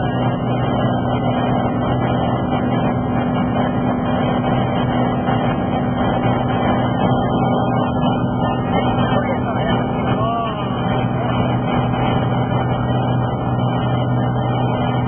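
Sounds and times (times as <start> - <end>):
light airplane engine droning: 0.0 - 15.0.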